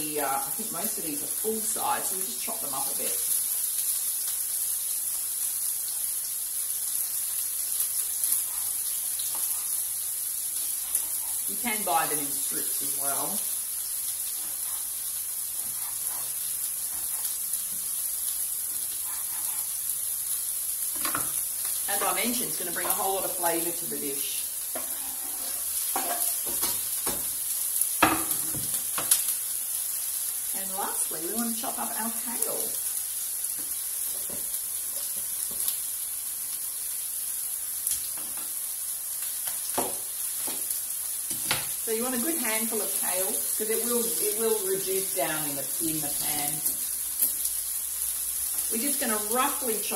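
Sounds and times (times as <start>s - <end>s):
food sizzling in frying pan: 0.0s - 49.9s.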